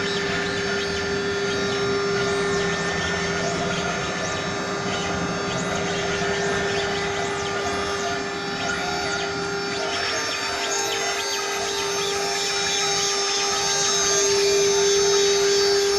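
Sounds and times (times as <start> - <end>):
router machine whine: 0.0 - 15.9
short rising and falling whines: 0.0 - 15.9.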